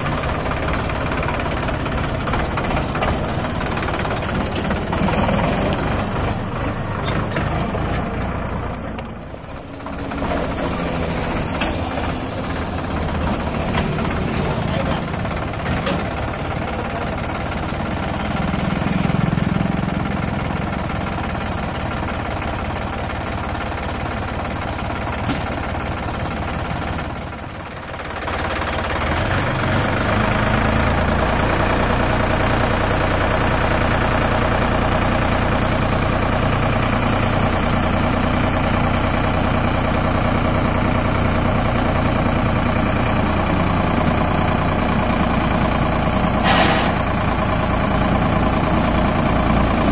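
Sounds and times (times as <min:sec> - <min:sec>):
tractor diesel engine: 0:00.0 - 0:49.9.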